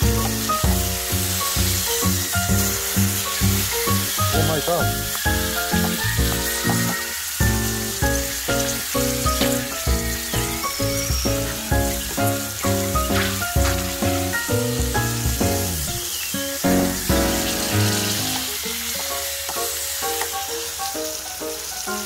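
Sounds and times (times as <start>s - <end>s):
music with steady beat: 0.0s - 16.0s, 16.6s - 18.4s
food sizzling in hot oil: 0.0s - 22.0s.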